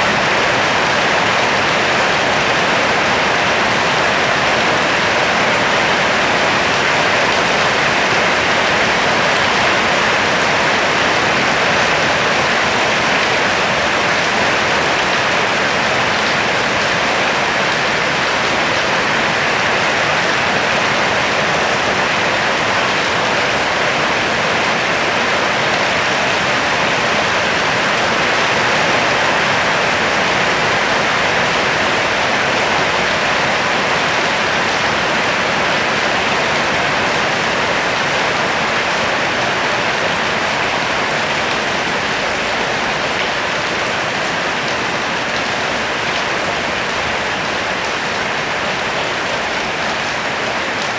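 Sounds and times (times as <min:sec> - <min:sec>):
rain falling and splashing: 0:00.0 - 0:50.9.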